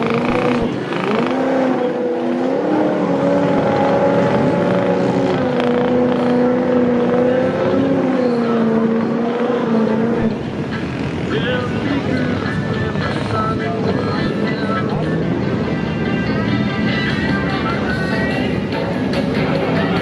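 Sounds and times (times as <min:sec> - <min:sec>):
truck engine revving high: 0:00.0 - 0:20.0.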